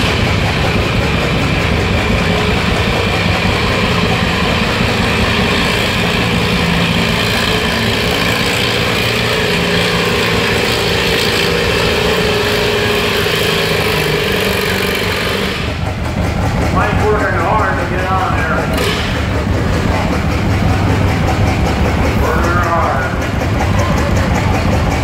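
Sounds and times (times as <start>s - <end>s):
tractor engine under heavy load: 0.0s - 25.0s.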